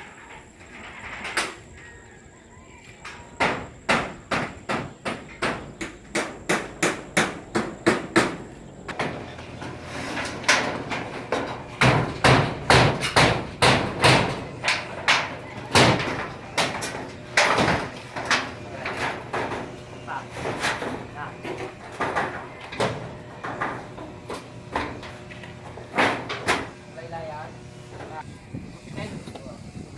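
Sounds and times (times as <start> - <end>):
hammer blows: 3.4 - 28.3.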